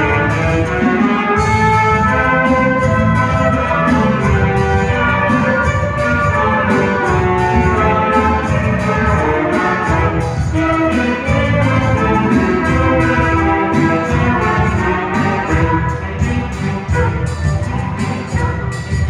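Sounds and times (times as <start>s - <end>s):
chamber orchestra playing: 0.0s - 19.0s.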